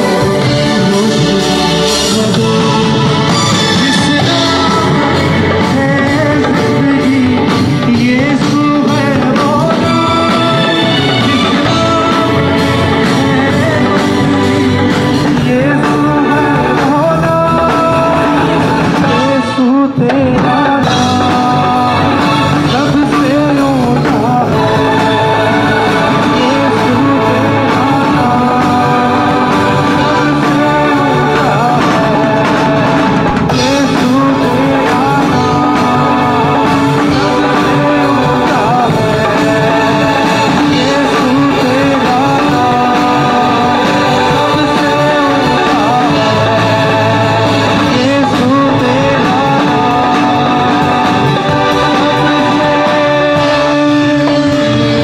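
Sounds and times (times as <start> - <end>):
drum kit: 0.0 - 55.0
electric guitar: 0.0 - 55.0
person singing: 0.0 - 55.0.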